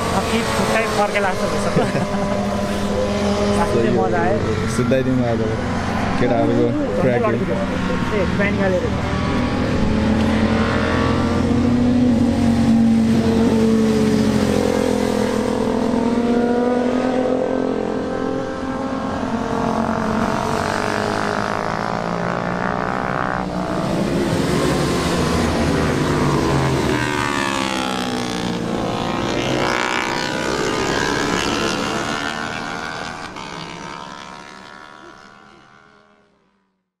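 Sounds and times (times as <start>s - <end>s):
motorcycles revving and passing: 0.0s - 36.8s.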